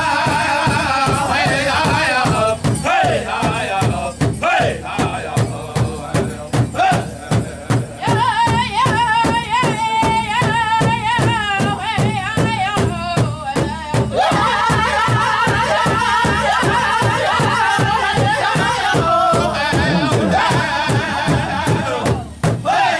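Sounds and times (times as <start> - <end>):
group singing in high voices: 0.0 - 11.8, 14.1 - 22.9
large drum steady beat: 0.0 - 22.9.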